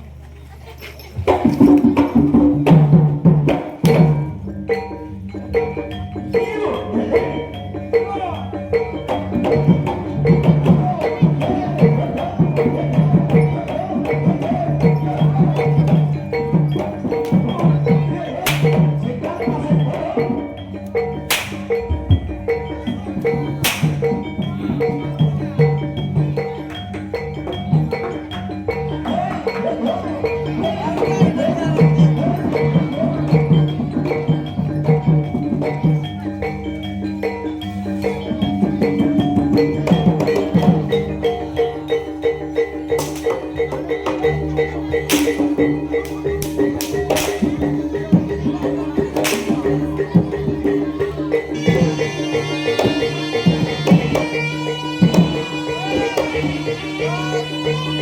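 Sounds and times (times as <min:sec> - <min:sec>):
drums: 0:00.0 - 0:58.0
gamelan music: 0:00.0 - 0:58.0
struck metallophones: 0:00.0 - 0:58.0
sharp percussion strikes: 0:01.0 - 0:58.0
wavering melodic line: 0:03.7 - 0:58.0.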